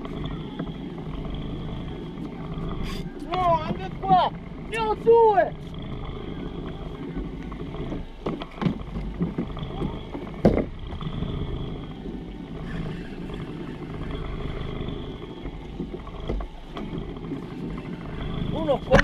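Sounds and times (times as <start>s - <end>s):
outboard motor running: 0.0s - 19.0s
water and wind noise: 0.0s - 19.0s.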